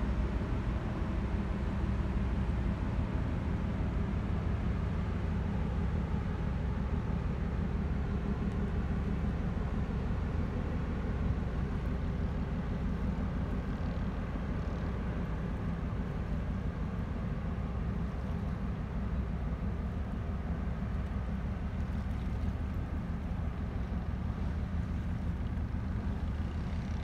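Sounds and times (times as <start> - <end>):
ship engine rumble: 0.0 - 27.0.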